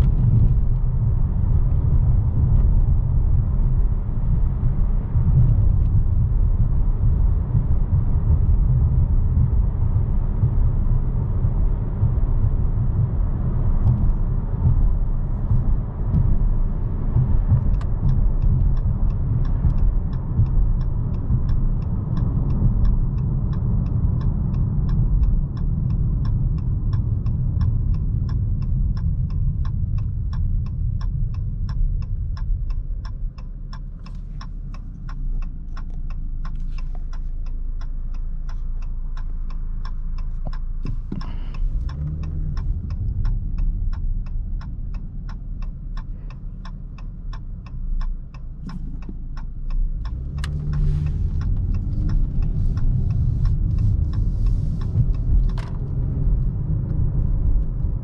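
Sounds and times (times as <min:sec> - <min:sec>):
car engine rumble: 0:00.0 - 0:58.0
road noise inside car: 0:00.0 - 0:58.0
turn signal ticking: 0:00.0 - 0:58.0.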